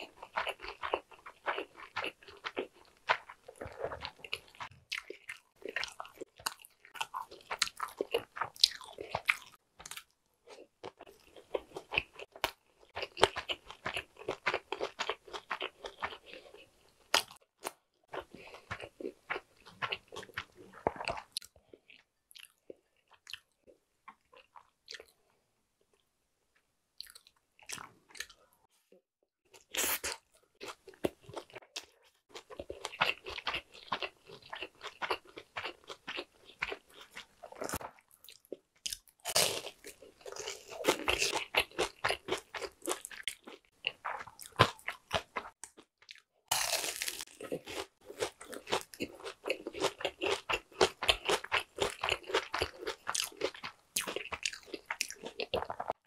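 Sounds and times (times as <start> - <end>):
crunchy chewing: 0.0 - 23.5, 29.6 - 56.0.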